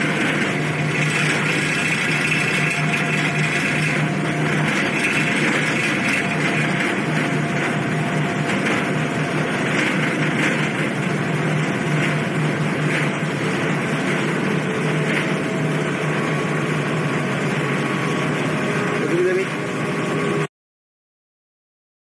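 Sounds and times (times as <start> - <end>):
churning wake water: 0.0 - 20.5
low engine hum: 0.0 - 20.5.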